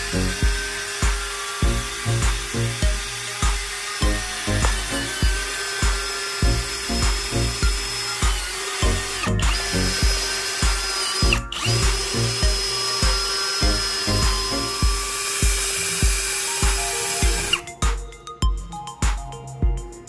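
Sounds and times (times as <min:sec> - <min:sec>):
drill motor whine: 0:00.0 - 0:17.7
background music with low beat: 0:00.0 - 0:20.0.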